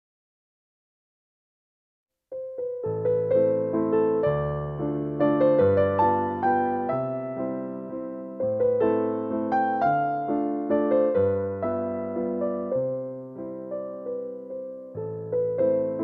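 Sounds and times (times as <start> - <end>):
electric piano melody: 2.3 - 16.0.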